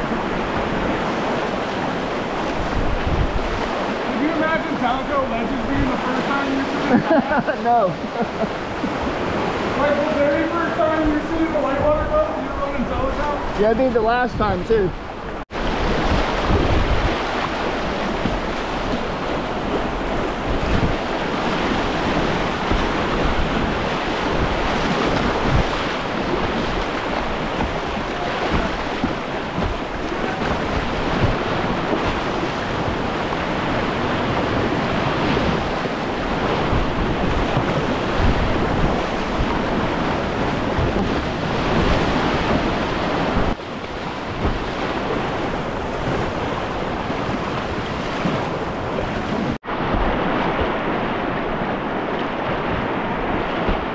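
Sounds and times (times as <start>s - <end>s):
wind buffeting microphone: 0.0s - 6.8s, 8.5s - 53.9s
whitewater rapids rushing: 0.0s - 53.9s.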